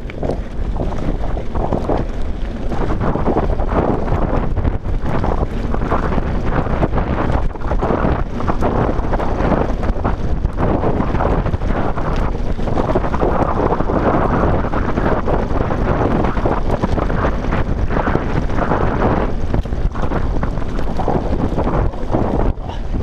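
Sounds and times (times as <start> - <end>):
tyres crunching on gravel: 0.0 - 22.8
bike rattling: 0.0 - 23.0
wind buffeting microphone: 0.0 - 23.0.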